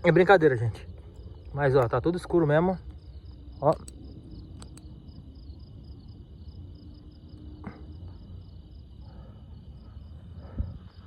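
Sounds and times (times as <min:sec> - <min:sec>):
crickets chirping: 0:00.0 - 0:11.0
low steady rumble: 0:00.0 - 0:11.0.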